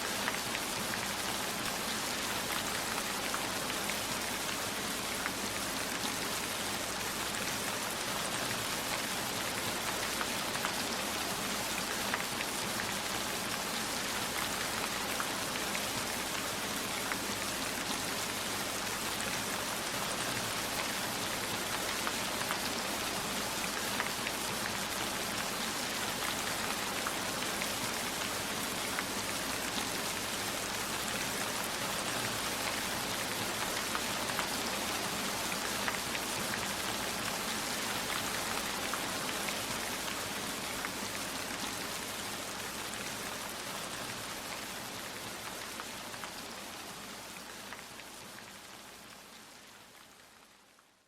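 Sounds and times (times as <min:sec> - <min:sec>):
rain falling: 0:00.0 - 0:51.0.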